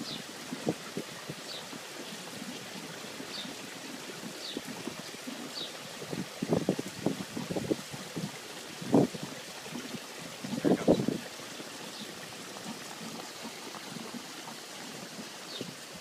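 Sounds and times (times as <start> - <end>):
aquarium water trickling: 0.0 - 16.0.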